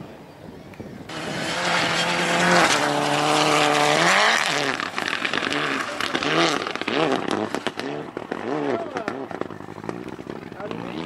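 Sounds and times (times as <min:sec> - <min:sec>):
engine crackles: 0:01.1 - 0:11.0
rally car engine revving: 0:01.1 - 0:11.0.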